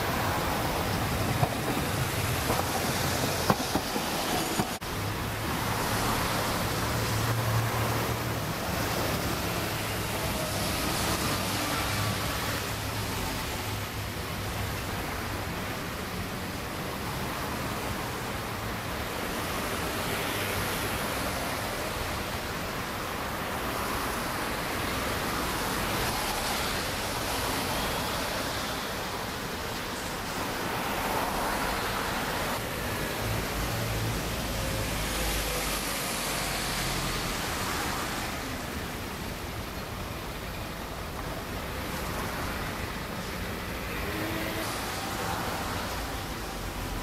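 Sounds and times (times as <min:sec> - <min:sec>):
city street traffic: 0:00.0 - 0:47.0.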